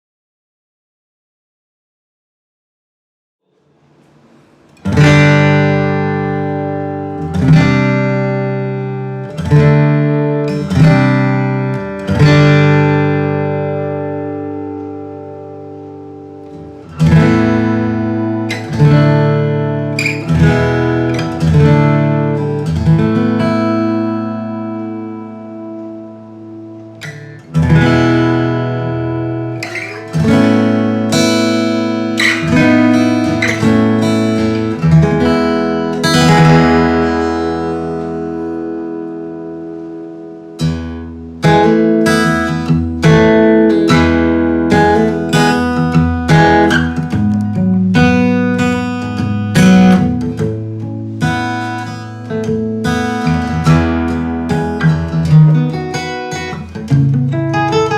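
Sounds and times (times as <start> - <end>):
acoustic guitar chords ringing: 3.4 - 57.9
acoustic guitar single notes: 3.4 - 57.9.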